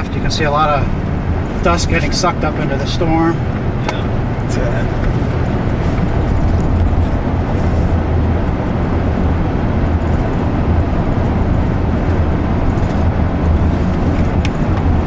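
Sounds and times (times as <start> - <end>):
vehicle cabin engine and tyre drone: 0.0 - 15.0.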